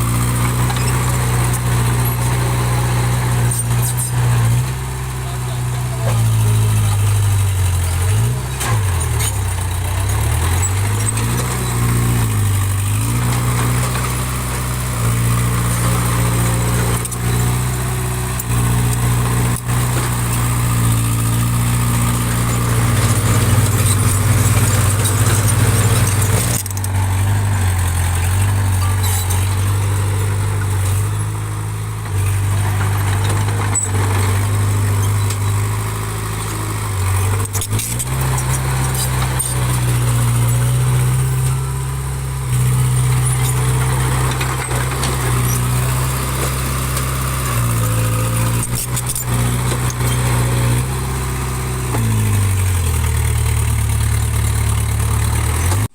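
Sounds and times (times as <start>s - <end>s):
bulldozer diesel engine: 0.0s - 55.9s.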